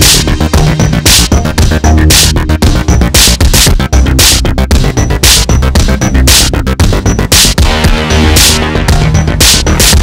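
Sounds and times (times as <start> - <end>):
techno music with heavy bass: 0.0 - 10.0.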